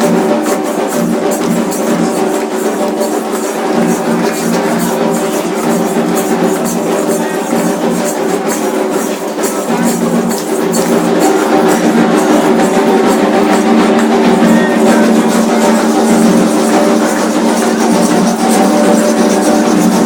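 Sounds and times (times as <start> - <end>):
drums: 0.0 - 20.0.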